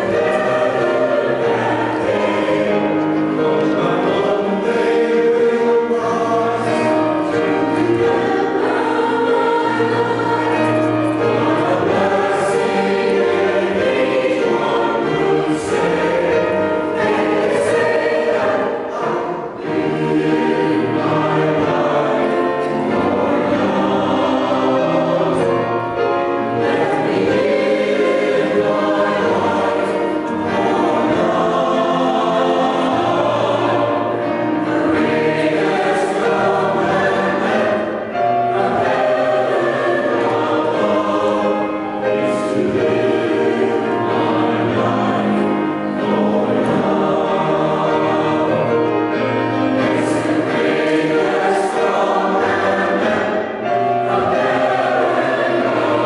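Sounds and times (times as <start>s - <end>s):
choir singing: 0.0s - 56.0s
piano accompaniment: 0.0s - 56.0s.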